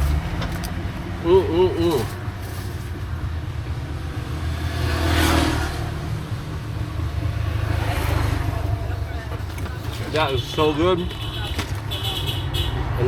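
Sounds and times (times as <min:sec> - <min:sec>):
road traffic rumble: 0:00.0 - 0:13.0
vehicle passing: 0:00.0 - 0:13.0.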